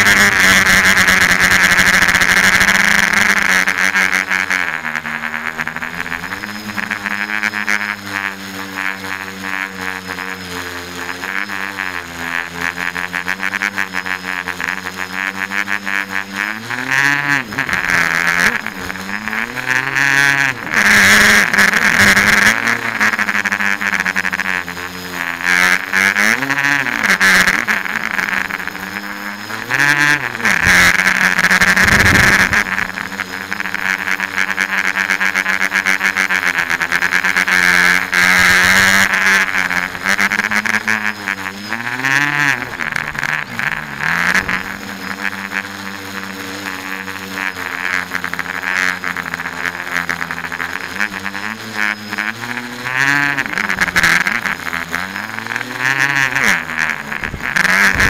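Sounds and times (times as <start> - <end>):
drone motors and propellers whining: 0.0 - 58.0.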